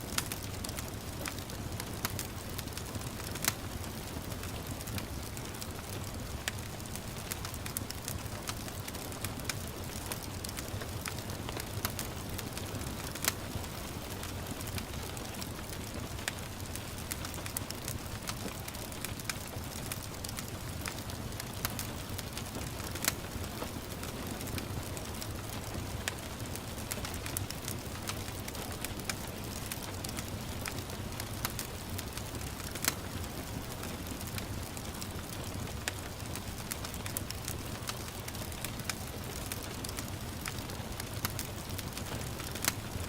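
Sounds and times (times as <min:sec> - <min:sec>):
gentle rain hiss: 0:00.0 - 0:43.0
wood fire crackling and popping: 0:00.0 - 0:43.0.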